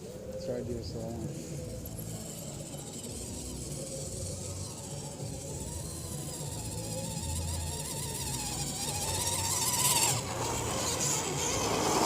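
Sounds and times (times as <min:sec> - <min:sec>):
rc car electric motor whining: 0:00.0 - 0:12.0.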